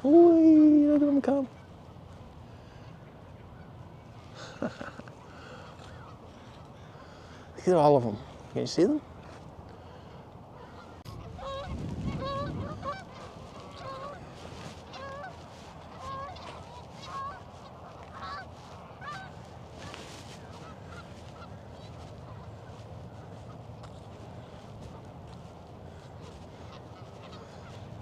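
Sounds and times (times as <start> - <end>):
geese honking: 0.6 - 8.0, 9.8 - 28.0.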